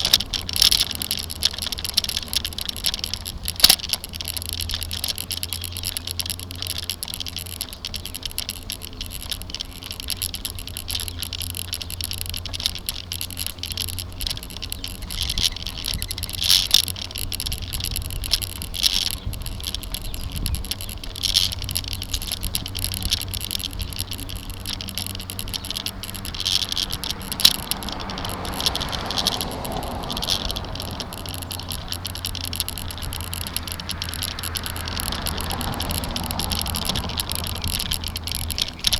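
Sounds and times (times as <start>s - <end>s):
camera rattling and clicking: 0.0s - 38.9s
low rumble of riding: 0.0s - 38.9s.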